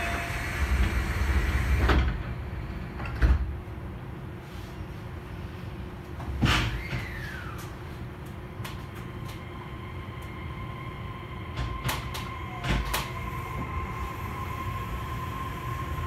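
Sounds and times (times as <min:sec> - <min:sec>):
monorail train low rumble: 0:00.0 - 0:16.0
train high whine: 0:00.0 - 0:16.0.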